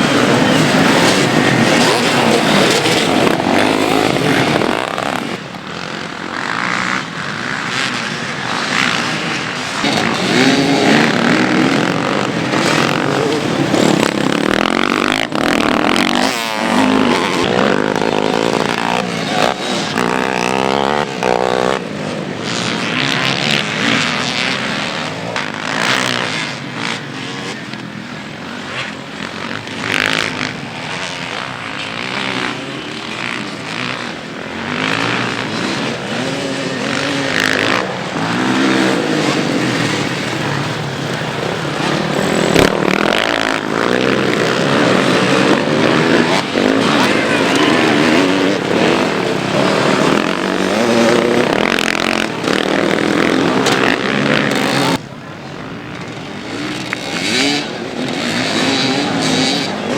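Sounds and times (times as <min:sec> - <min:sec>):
motocross bikes revving: 0:00.0 - 0:59.9.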